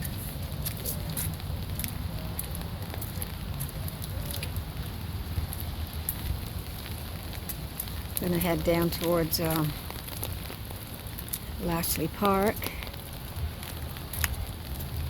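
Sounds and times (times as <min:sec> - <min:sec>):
light rain pattering: 0:00.0 - 0:15.0
steady low rumble: 0:00.0 - 0:15.0.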